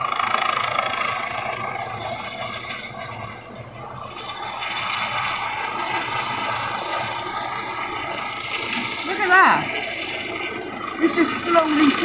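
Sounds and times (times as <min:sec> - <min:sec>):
helicopter hovering overhead: 0:00.3 - 0:12.0.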